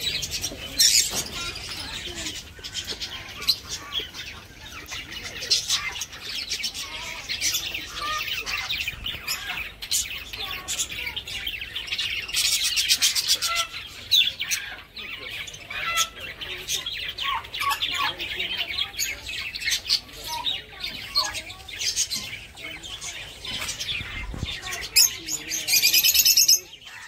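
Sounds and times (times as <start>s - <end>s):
budgerigars chattering: 0.0s - 27.0s.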